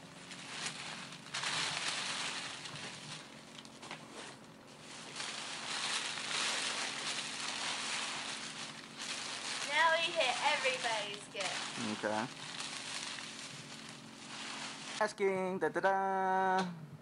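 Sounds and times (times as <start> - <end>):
sharp paper crackles: 0.0 - 15.1
wrapping paper tearing and crumpling: 0.0 - 15.1.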